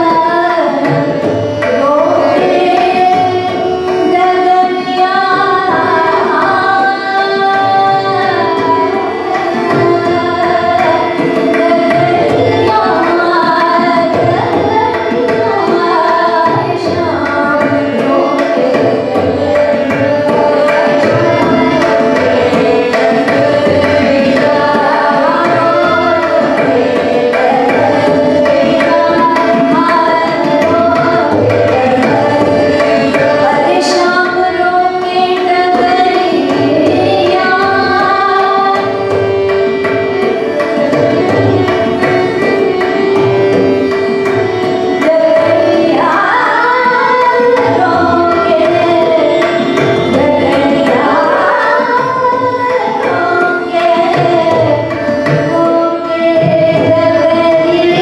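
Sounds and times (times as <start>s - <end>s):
woman singing classical vocals: 0.0s - 39.0s, 45.0s - 58.0s
tabla playing rhythm: 0.0s - 58.0s
held drone: 0.6s - 58.0s.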